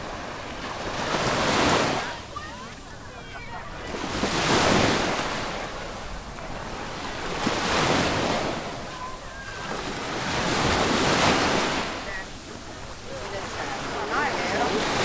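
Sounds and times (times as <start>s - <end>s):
sea waves washing up beach: 0.0s - 15.0s.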